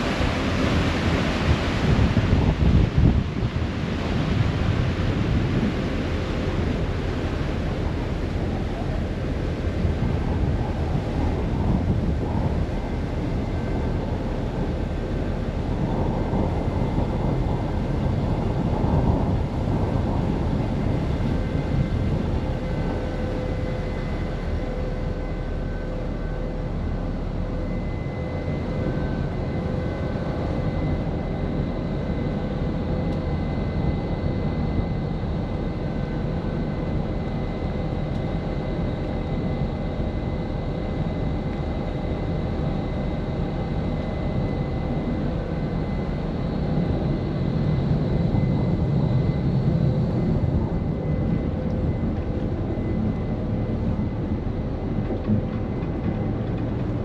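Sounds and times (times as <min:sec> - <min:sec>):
ferry engines droning: 0:00.0 - 0:57.0.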